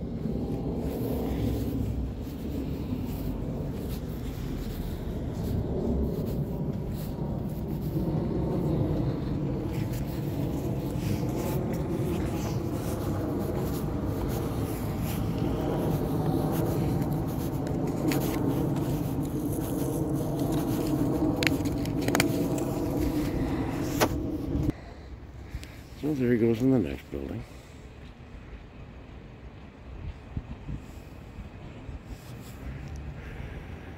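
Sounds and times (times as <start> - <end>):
motor vehicle rumble: 0.0 - 26.0, 27.5 - 33.9.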